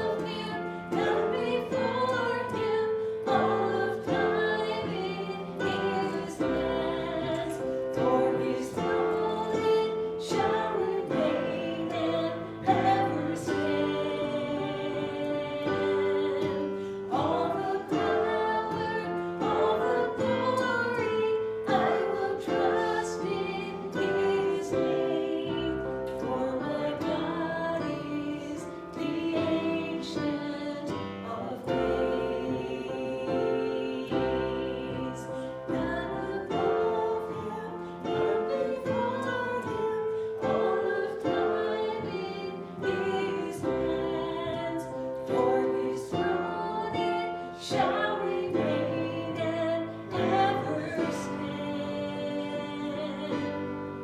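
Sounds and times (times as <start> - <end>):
instrumental accompaniment: 0.0 - 54.0
voices singing worship song: 0.0 - 54.0.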